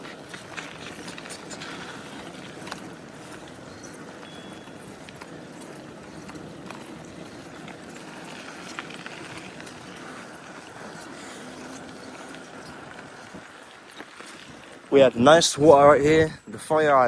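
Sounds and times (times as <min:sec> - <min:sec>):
small clicks and rattles: 0:00.0 - 0:15.0
bicycle tyre noise: 0:00.0 - 0:17.0.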